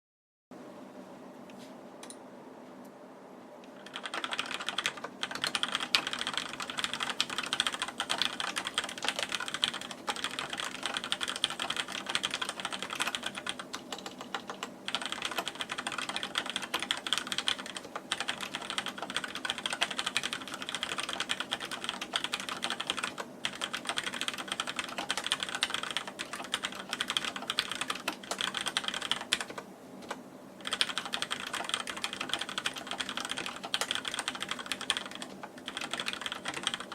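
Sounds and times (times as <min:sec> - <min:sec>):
mechanical keyboard typing: 0:03.8 - 0:36.9.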